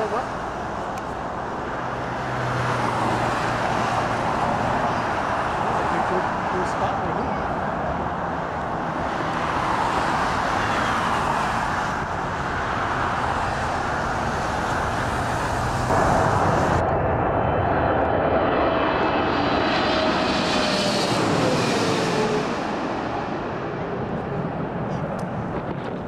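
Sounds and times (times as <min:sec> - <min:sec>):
distant jet engines rushing: 0:00.0 - 0:26.0
jet flying low overhead: 0:00.0 - 0:26.0.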